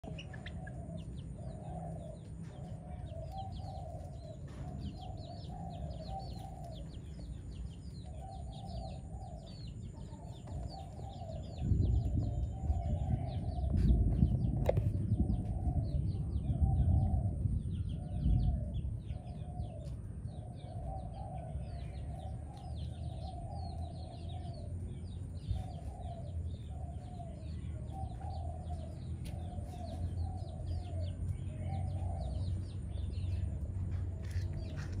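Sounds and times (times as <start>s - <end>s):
chicks chirping and peeping: 0.0s - 35.0s
low rumble: 0.0s - 35.0s
repeated lower bird calls: 0.0s - 35.0s.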